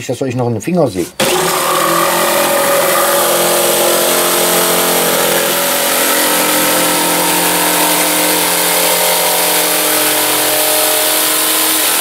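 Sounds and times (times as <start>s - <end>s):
jigsaw cutting plywood: 1.1s - 12.0s.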